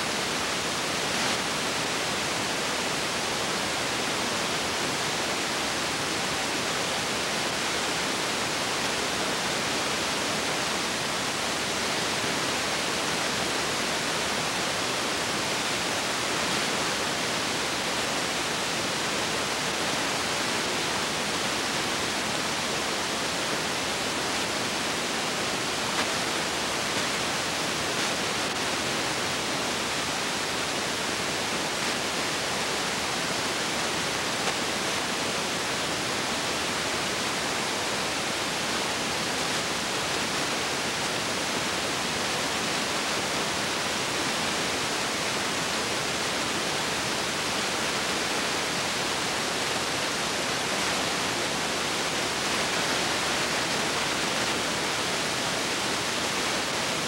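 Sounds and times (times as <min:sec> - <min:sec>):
steady film hiss: 0:00.0 - 0:57.0.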